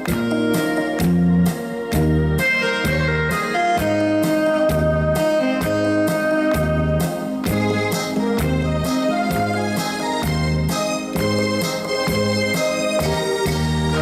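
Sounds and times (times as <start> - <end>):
keyboard bass and beat backing track: 0.0 - 14.0
saxophone melody: 0.0 - 14.0.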